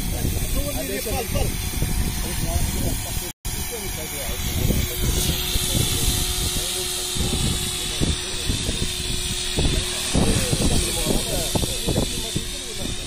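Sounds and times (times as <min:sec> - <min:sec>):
model helicopter motor whine: 0:00.0 - 0:13.0
wind buffeting microphone: 0:00.0 - 0:13.0.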